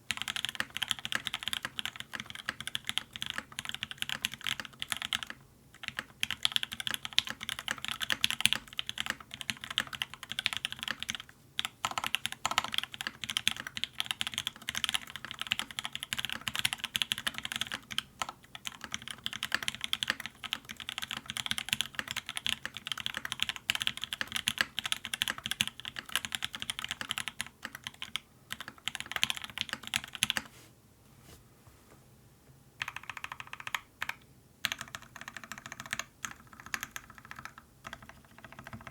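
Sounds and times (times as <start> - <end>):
mechanical keyboard typing: 0.1 - 30.5, 32.8 - 38.9.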